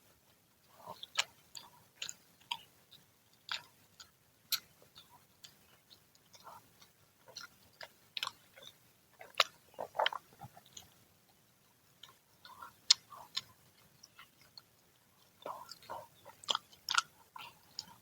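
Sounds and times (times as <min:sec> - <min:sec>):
crunchy chewing: 0:00.3 - 0:18.0.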